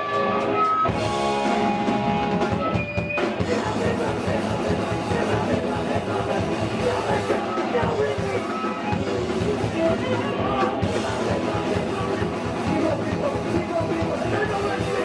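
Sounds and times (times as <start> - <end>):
punk band playing live: 0.0 - 15.0.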